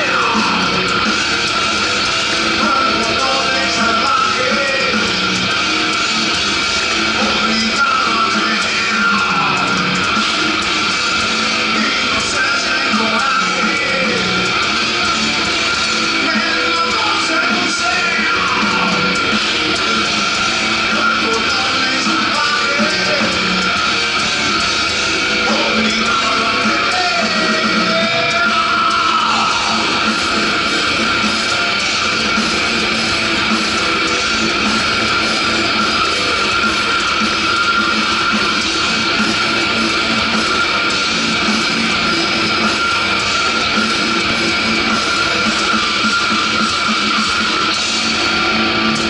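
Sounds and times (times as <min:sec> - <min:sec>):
distorted electric guitars: 0:00.0 - 0:49.0
drums: 0:00.0 - 0:49.0.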